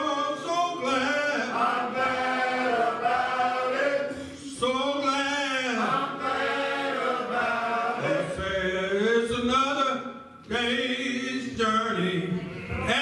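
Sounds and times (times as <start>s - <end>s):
men's choir singing gospel: 0.0s - 13.0s.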